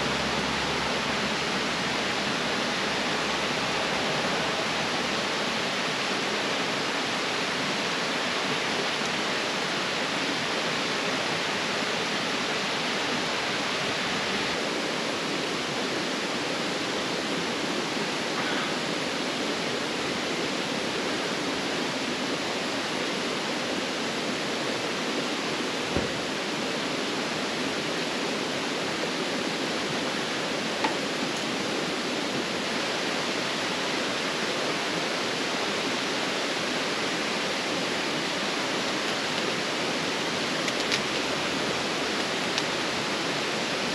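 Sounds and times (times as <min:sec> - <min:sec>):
steady rushing noise: 0:00.0 - 0:43.9.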